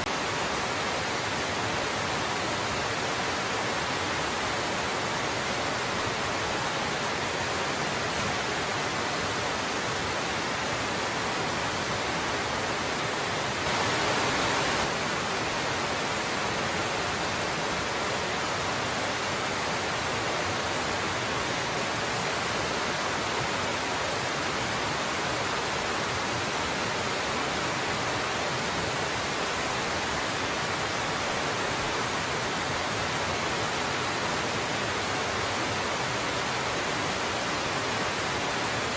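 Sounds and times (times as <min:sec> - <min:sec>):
waterfall hissing: 0:00.0 - 0:38.9.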